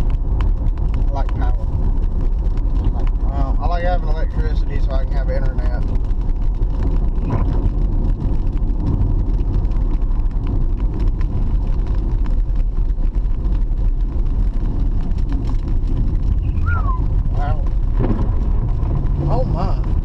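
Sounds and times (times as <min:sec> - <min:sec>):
car driving road noise: 0:00.0 - 0:20.0.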